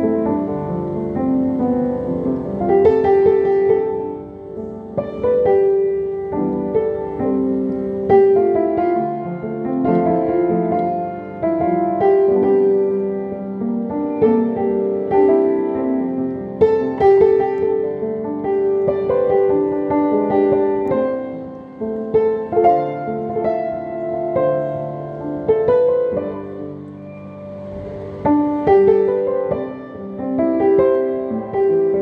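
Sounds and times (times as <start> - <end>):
solo keyboard music: 0.0 - 32.0.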